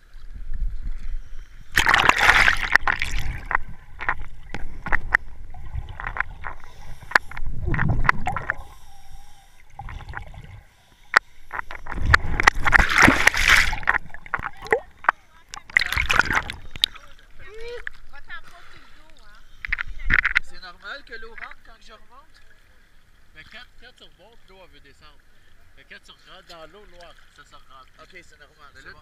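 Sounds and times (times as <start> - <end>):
muffled underwater sloshing: 0.0 - 23.6
water splashing: 0.0 - 24.3.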